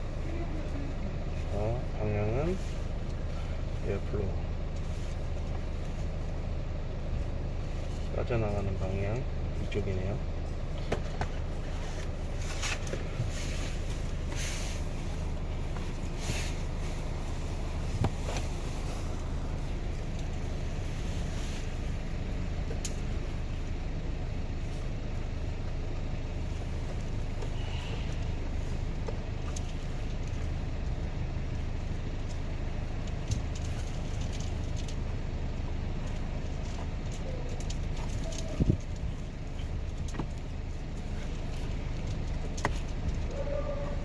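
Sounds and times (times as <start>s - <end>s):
vehicle engine idling hum: 0.0s - 44.0s.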